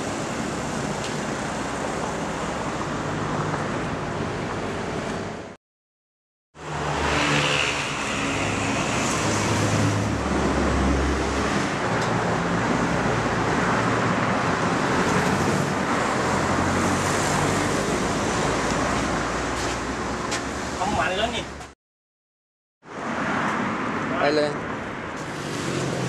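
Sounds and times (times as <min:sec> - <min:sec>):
road traffic with engines running: 0:00.0 - 0:05.6, 0:06.6 - 0:21.8, 0:22.8 - 0:26.0.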